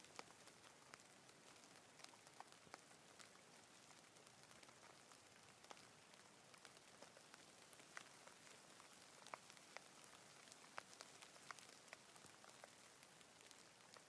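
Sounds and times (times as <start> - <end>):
rain hiss: 0.0 - 14.0
raindrops ticking: 0.0 - 14.0.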